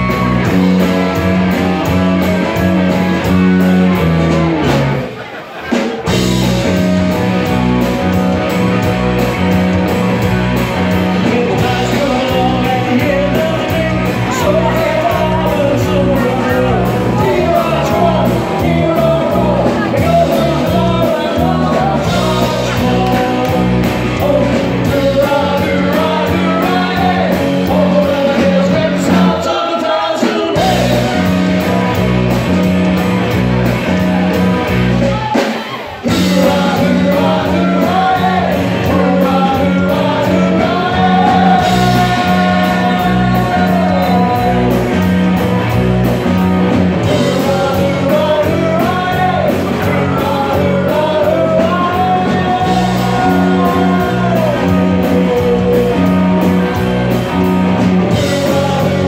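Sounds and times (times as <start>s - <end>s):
bass guitar: 0.0s - 59.0s
drum kit: 0.0s - 59.0s
electric guitars: 0.0s - 59.0s
shouted lead vocals: 0.0s - 59.0s.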